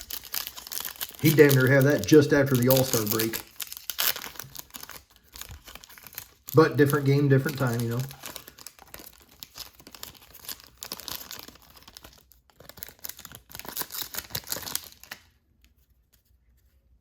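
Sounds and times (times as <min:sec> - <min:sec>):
foil wrapper tearing and crinkling: 0:00.0 - 0:15.4.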